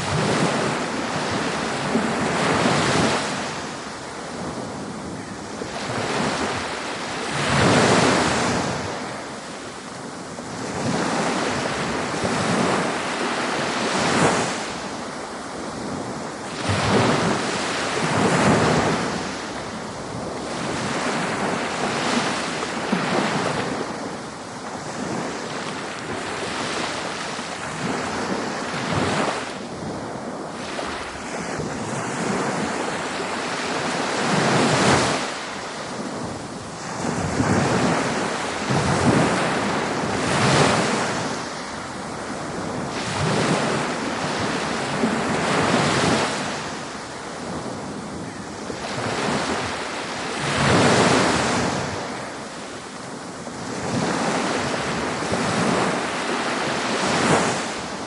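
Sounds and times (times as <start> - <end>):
ocean waves breaking on a beach: 0.0 - 58.0
wind noise on microphone: 0.0 - 58.0.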